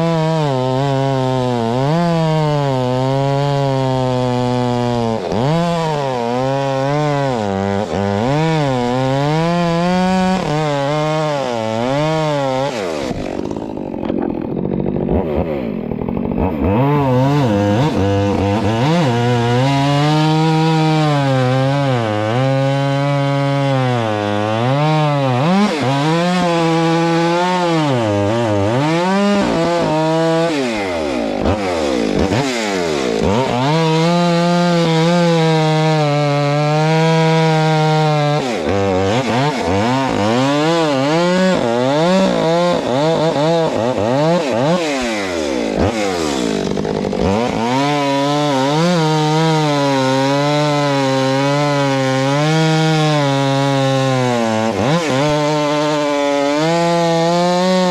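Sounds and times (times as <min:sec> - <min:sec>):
chainsaw cutting a log: 0:00.0 - 0:57.9.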